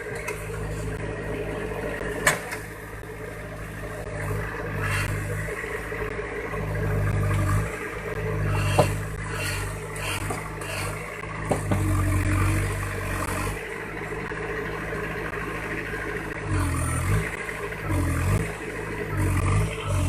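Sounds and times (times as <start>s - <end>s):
diesel engine labouring: 0.0s - 20.0s.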